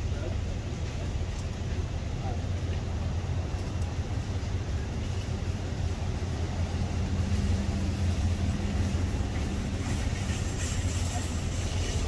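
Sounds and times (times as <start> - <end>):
passing traffic hiss: 0.0 - 12.0
vehicle engine rumbling: 0.0 - 12.0.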